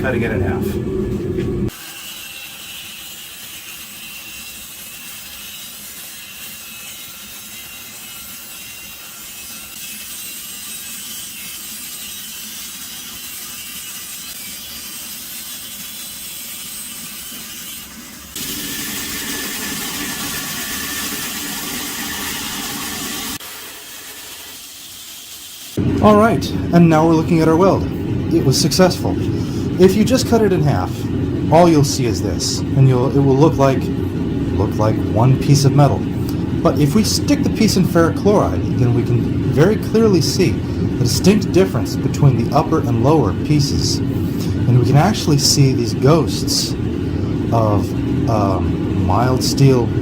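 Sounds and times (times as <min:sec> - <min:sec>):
saw cutting steel bar: 0:01.7 - 0:33.9, 0:34.6 - 0:46.8.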